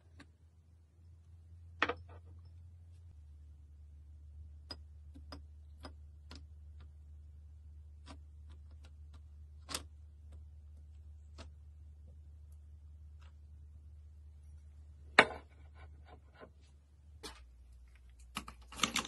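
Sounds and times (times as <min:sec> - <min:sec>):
low hum: 0:00.0 - 0:18.2.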